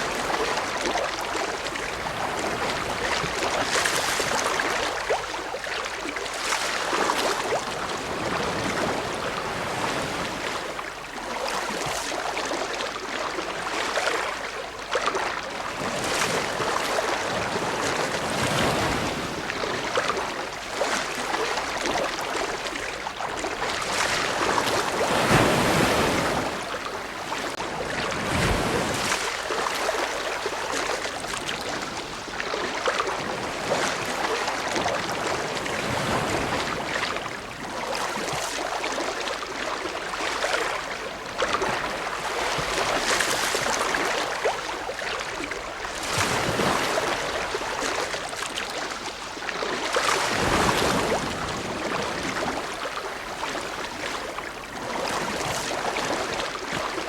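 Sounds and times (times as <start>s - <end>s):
ocean waves washing ashore: 0.0s - 14.4s, 15.1s - 57.0s.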